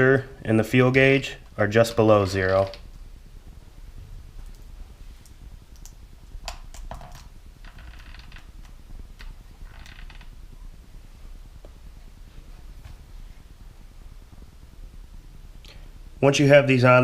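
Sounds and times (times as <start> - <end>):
low hum: 0.0 - 16.5.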